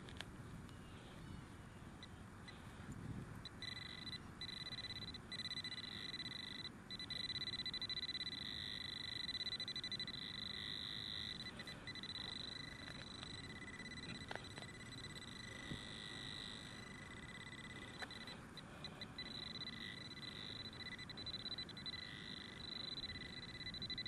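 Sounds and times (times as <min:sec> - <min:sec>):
metal detector pulsing tone: 0:03.4 - 0:24.0.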